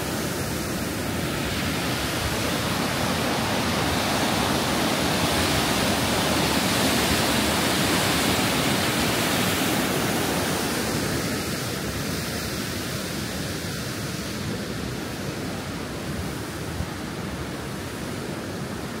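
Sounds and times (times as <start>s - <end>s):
creek rushing over boulders: 0.0s - 19.0s.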